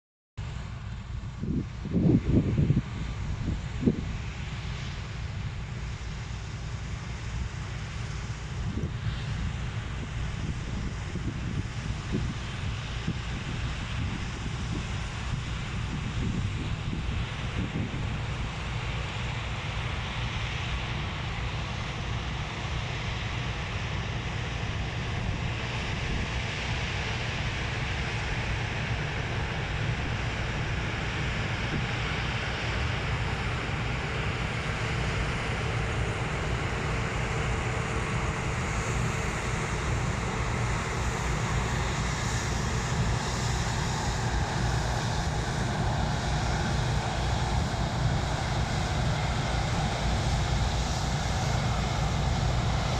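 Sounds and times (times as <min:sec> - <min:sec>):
harvest machinery engine drone: 0:00.4 - 0:52.9
wind noise on microphone: 0:00.4 - 0:52.9.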